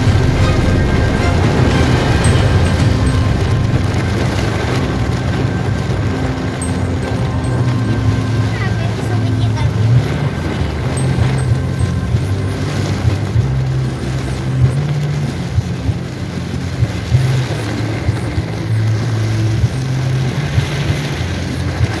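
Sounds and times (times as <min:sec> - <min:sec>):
car engine and tyre hum: 0:00.0 - 0:22.0
heavy rain drumming on car roof: 0:00.0 - 0:22.0.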